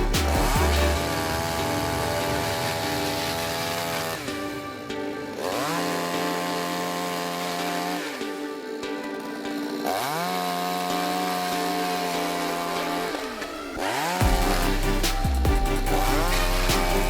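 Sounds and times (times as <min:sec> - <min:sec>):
chainsaw engine revving: 0:00.0 - 0:04.6, 0:05.3 - 0:08.2, 0:09.8 - 0:17.0.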